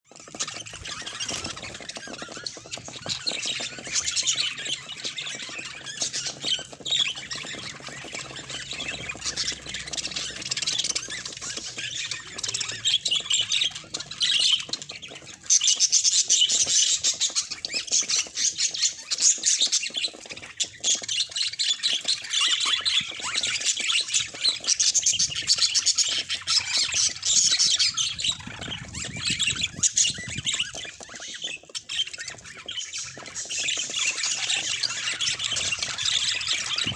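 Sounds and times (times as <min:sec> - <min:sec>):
budgerigars chattering: 0:00.1 - 0:36.9.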